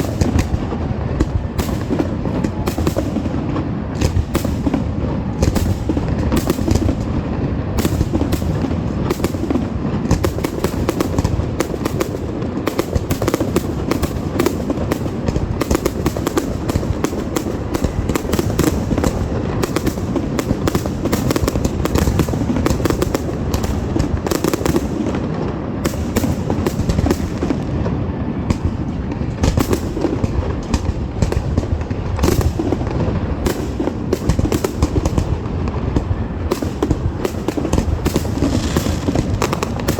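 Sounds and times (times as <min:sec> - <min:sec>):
fireworks bangs and crackles: 0:00.0 - 0:39.9
rumble of fireworks booms: 0:00.0 - 0:39.9.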